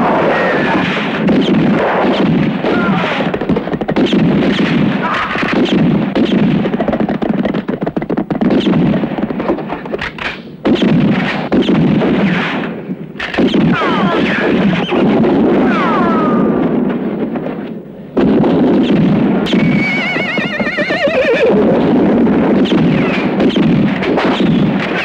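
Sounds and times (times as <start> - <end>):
rifle and pistol shots: 0.0 - 19.9, 21.6 - 25.0.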